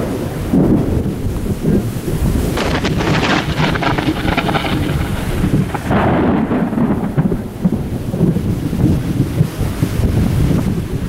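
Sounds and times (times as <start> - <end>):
rustling hiss: 0.0 - 10.8
wind buffeting microphone: 0.0 - 11.0.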